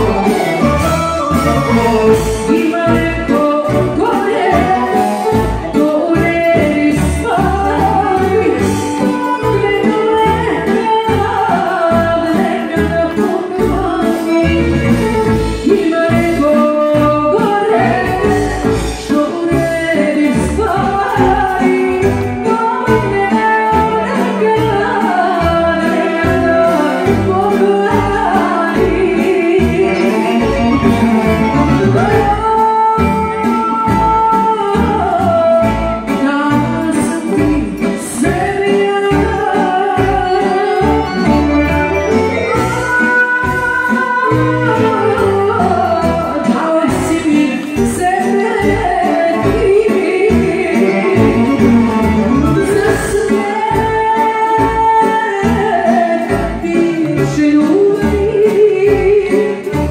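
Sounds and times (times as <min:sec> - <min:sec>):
live band music: 0:00.0 - 0:59.9
woman singing into a microphone: 0:00.0 - 0:59.9.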